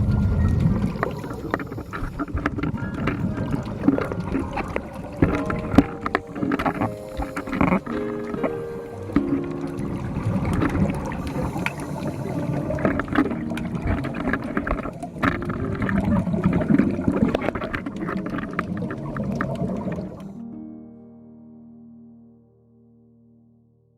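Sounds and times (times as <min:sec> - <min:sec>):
water sloshing and gurgling: 0:00.0 - 0:20.4.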